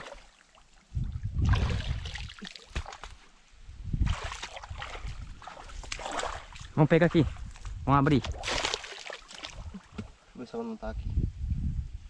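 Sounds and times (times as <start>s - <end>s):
muddy water sloshing: 0.0s - 10.2s.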